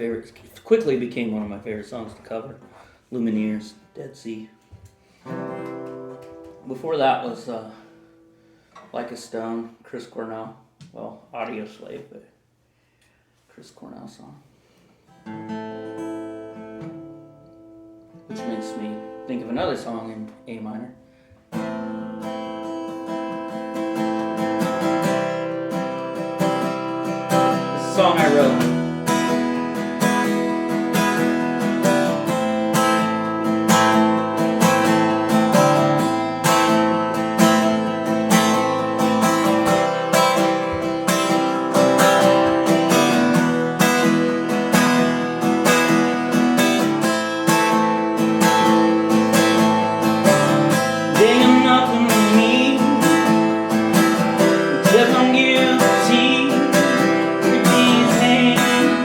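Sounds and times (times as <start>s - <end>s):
acoustic guitar strumming: 0.0s - 9.4s, 15.0s - 59.0s.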